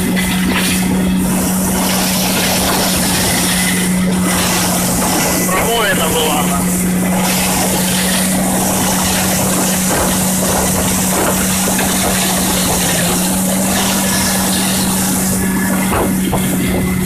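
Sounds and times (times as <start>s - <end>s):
dense rushing noise: 0.0s - 17.0s
vehicle engine droning: 0.0s - 17.0s.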